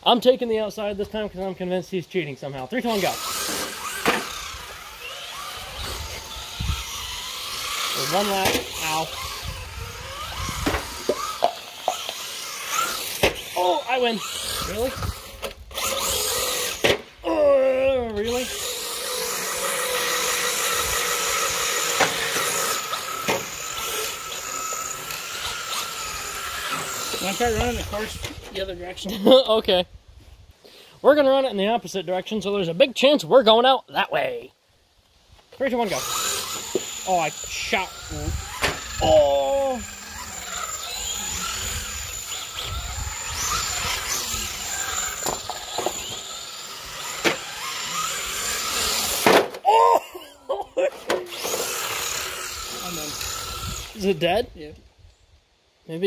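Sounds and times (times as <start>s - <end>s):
rc car motor and gear whine: 2.6s - 29.2s, 35.5s - 49.6s, 50.3s - 55.2s.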